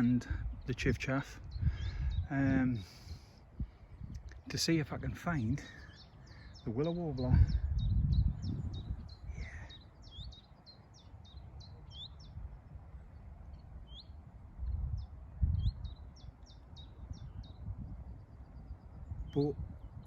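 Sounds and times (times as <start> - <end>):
warbler singing: 0.0 - 20.0.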